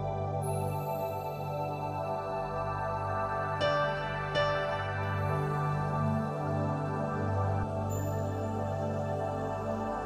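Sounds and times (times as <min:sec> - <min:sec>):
soft new-age music: 0:00.0 - 0:10.0.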